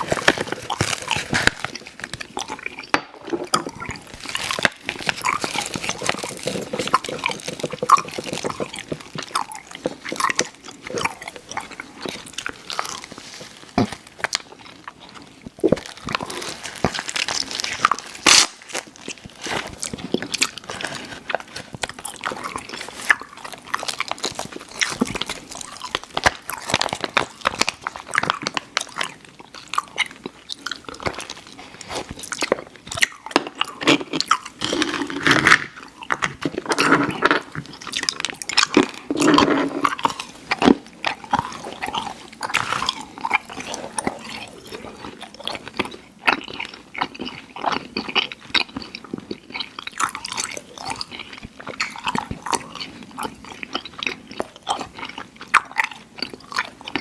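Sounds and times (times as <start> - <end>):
mouth chewing candy: 0.0 - 57.0.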